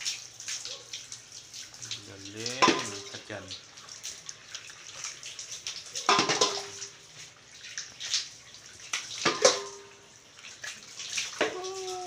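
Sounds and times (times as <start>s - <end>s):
water splashing on tiles: 0.0s - 12.0s.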